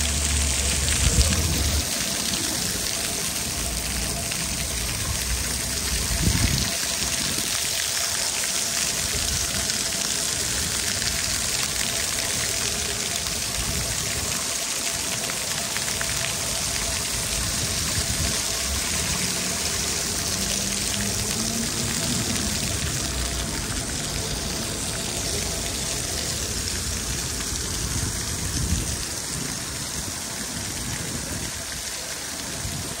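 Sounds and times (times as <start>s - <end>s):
fountain jets splashing on paving: 0.0s - 33.0s.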